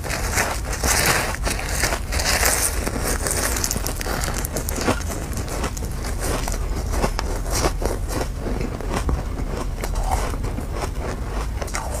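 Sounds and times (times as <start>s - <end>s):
chewing ice crunches: 0.0s - 12.0s.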